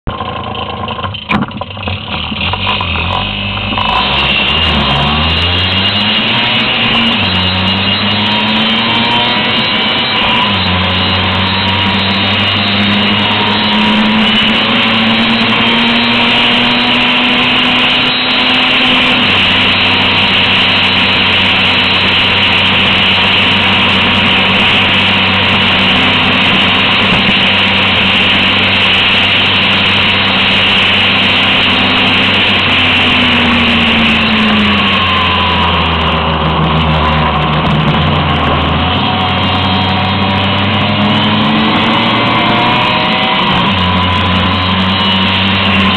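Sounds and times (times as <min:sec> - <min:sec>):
scooter engine under load: 0:00.0 - 0:45.9.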